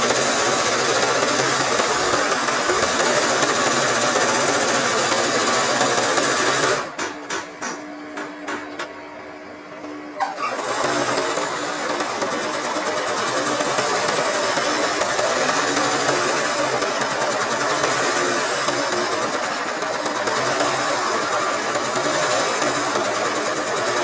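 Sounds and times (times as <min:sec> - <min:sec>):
sewing machine stitching: 0:00.0 - 0:07.1, 0:10.2 - 0:24.0.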